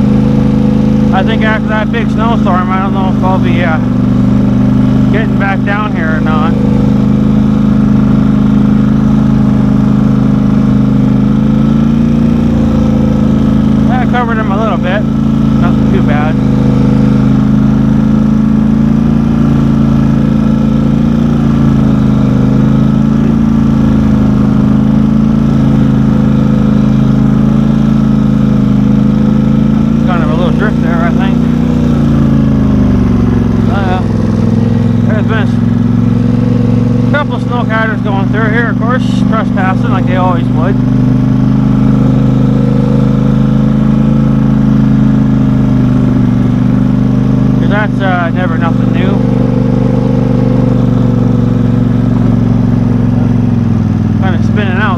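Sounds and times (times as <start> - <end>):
vehicle engine droning: 0.0 - 54.9.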